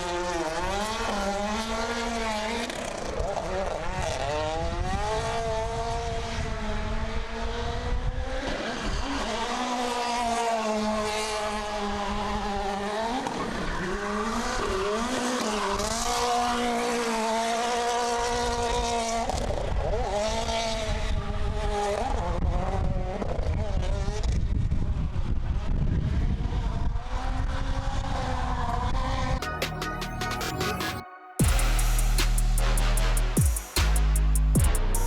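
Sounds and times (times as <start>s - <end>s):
car engine at high revs: 0.0s - 29.5s.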